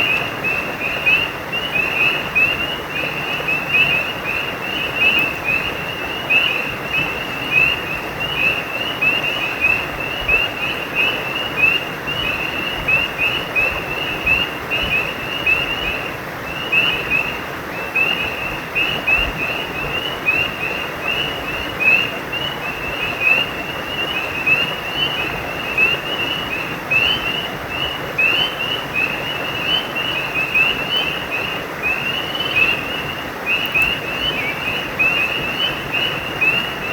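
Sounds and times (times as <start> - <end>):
frogs chirping: 0.0 - 36.9
stream rushing: 0.0 - 36.9.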